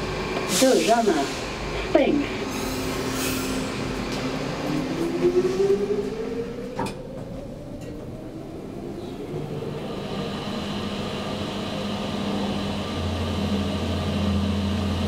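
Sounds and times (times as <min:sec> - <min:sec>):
elevator machine hum: 0:00.0 - 0:15.0
rising whine: 0:02.5 - 0:15.0.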